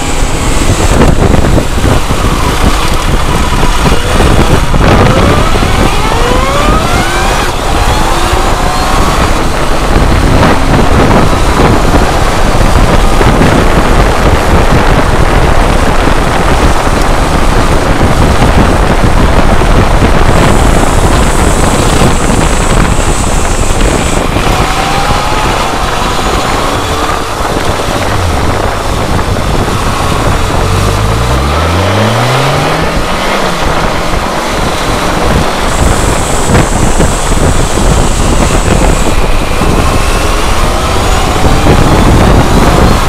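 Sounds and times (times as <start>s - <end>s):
motorcycle engine accelerating: 0.0s - 43.0s
wind buffeting microphone: 0.0s - 43.0s.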